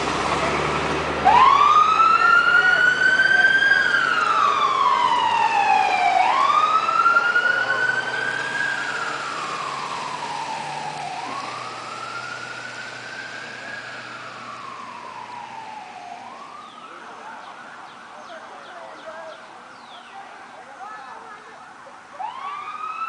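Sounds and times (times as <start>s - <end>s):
ambulance siren wailing: 0.0s - 23.0s.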